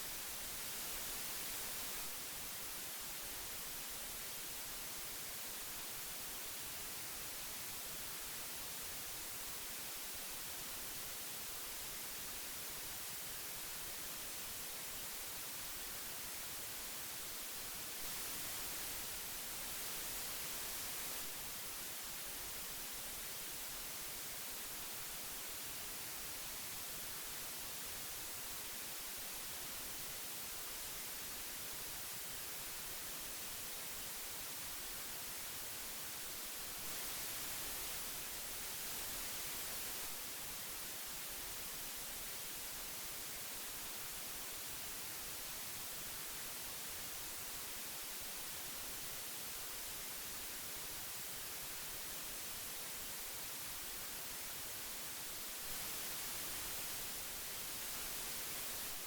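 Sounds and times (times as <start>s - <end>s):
magnetic tape hiss: 0.0s - 59.0s.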